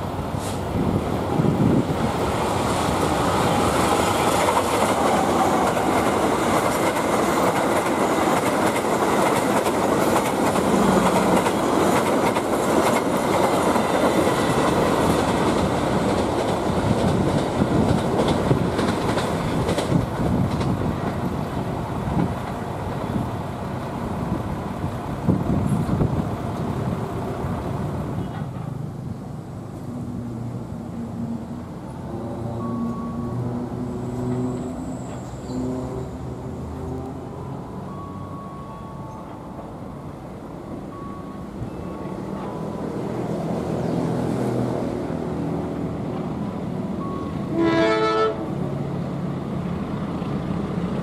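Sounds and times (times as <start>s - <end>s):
train rushing past: 0.0s - 51.0s.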